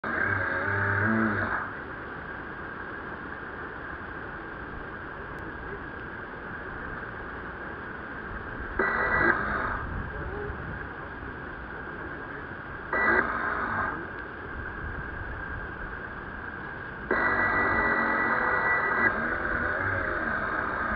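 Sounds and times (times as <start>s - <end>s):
steady outdoor hiss: 0.0s - 20.9s.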